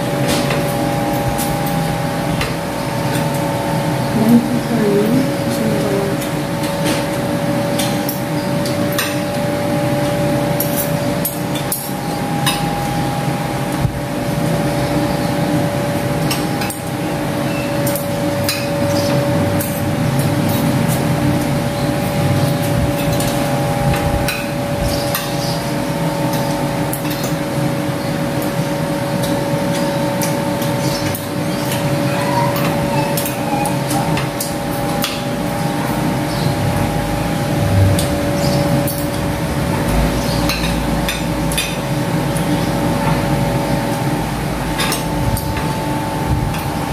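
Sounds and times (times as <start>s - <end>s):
steady mechanical hum: 0.0s - 46.9s.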